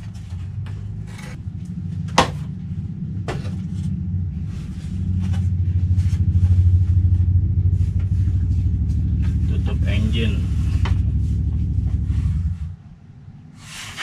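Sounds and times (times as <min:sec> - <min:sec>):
low pulsing rumble: 0:00.0 - 0:13.6.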